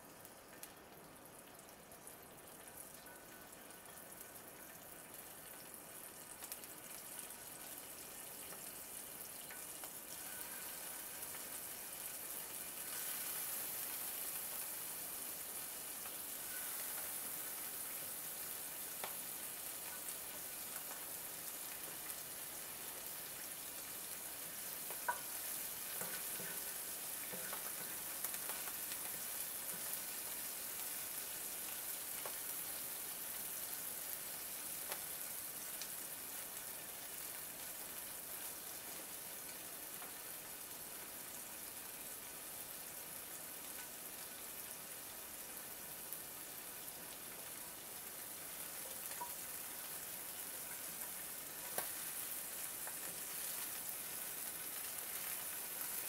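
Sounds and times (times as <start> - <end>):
shrimp sizzling in hot oil: 0.0 - 56.0.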